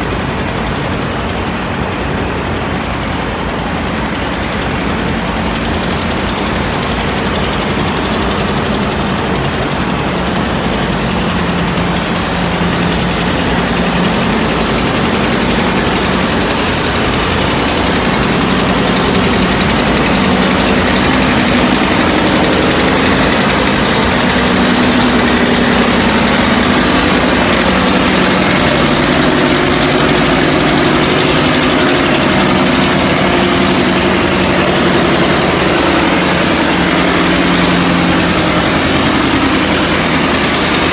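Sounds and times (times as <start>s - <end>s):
tractor engine running hard: 0.0s - 40.9s.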